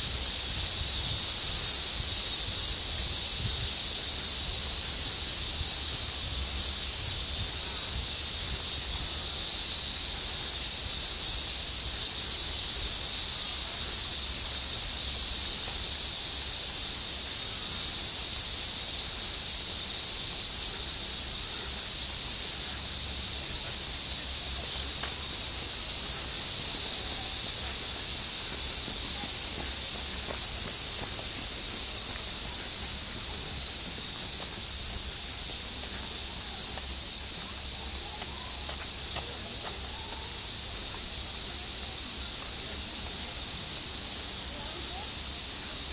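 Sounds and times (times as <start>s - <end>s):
cicadas droning: 0.0s - 45.9s.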